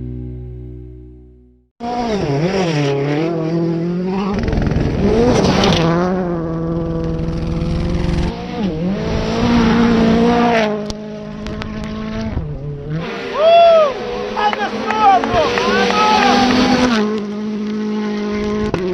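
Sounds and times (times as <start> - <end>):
rally car engine revving: 1.8 - 18.9.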